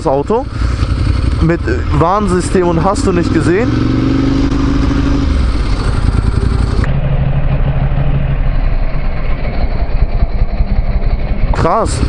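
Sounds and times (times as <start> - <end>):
motorcycle engine at low revs: 0.0 - 12.0
steady rushing noise: 0.5 - 12.0.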